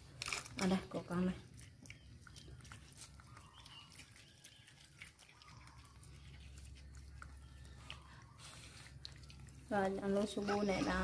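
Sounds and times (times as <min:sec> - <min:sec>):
monkey nibbling corn: 0:00.0 - 0:11.0.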